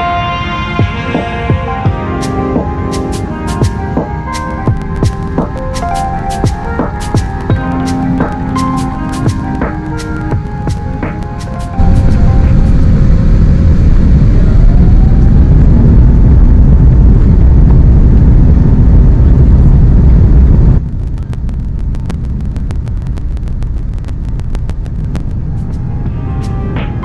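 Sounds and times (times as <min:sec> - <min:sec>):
jet engines rumbling in cabin: 0:00.0 - 0:26.2
steady cabin rumble: 0:00.8 - 0:26.2.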